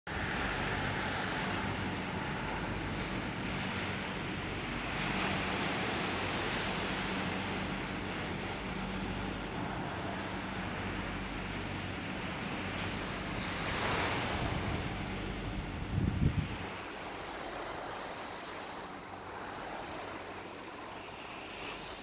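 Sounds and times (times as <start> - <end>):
low steady hum: 0.1 - 22.0
sea surf: 0.1 - 22.0
wind on microphone: 0.1 - 22.0.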